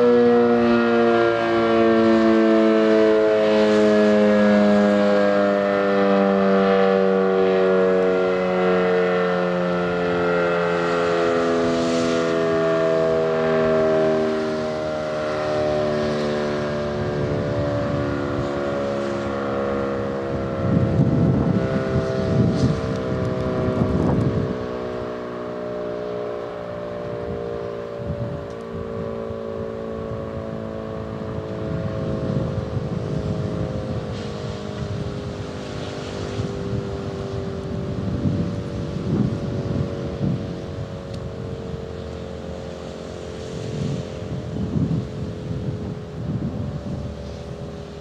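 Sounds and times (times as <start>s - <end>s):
warning siren chord: 0.0s - 48.0s
wind buffeting microphone: 7.6s - 25.6s, 26.4s - 48.0s.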